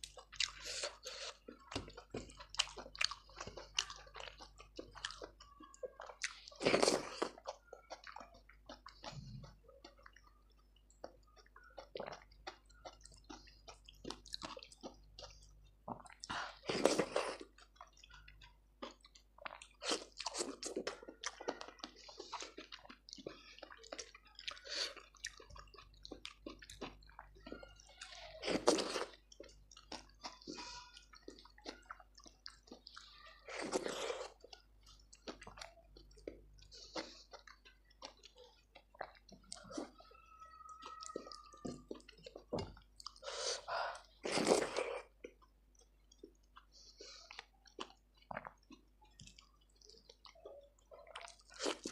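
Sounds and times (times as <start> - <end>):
person chewing wet food: 0.0 - 51.9.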